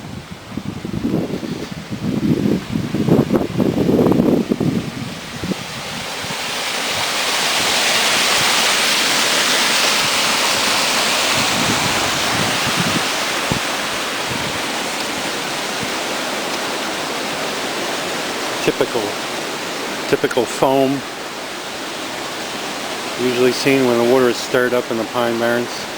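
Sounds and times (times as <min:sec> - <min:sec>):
water rushing over spillway: 0:00.0 - 0:25.9.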